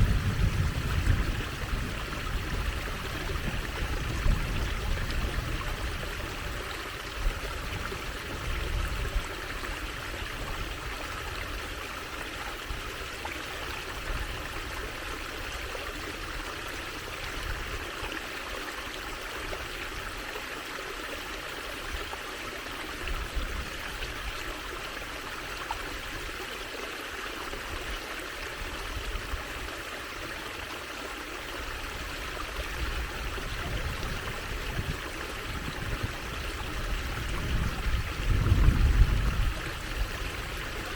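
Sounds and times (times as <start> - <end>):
water trickling and flowing: 0.0 - 40.9.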